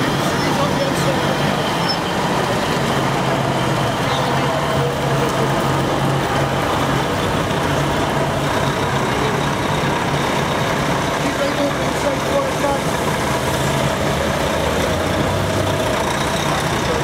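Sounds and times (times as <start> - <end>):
truck diesel engines droning: 0.0 - 17.0.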